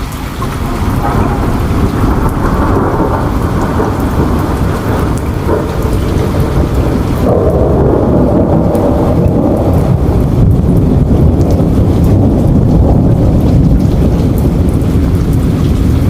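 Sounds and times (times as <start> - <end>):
low rumble of thunder: 0.0 - 16.0
rain falling: 0.0 - 16.0.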